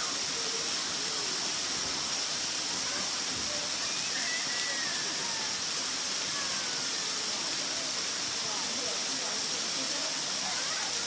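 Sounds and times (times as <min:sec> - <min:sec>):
distant voices of swimmers: 0:00.0 - 0:11.0
steady outdoor hiss: 0:00.0 - 0:11.0.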